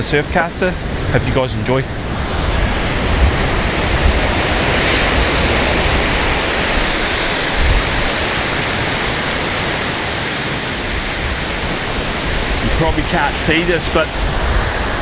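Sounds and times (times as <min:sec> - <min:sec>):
wind buffeting microphone: 0:00.0 - 0:15.0
waves breaking on beach: 0:00.3 - 0:15.0.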